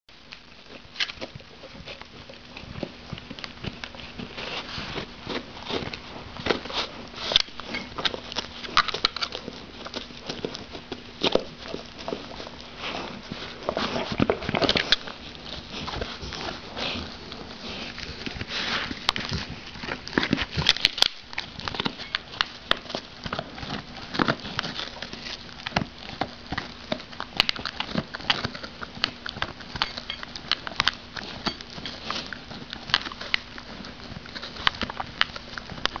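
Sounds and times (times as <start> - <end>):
dog chewing a bone: 0.1 - 36.0.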